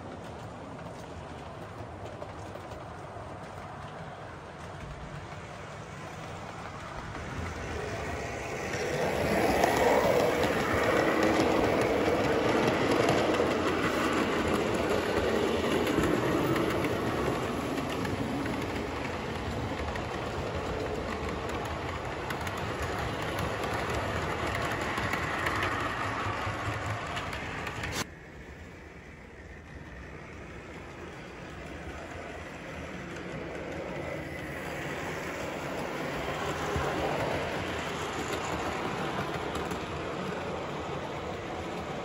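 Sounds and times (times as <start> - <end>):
model train running past: 0.0 - 42.0.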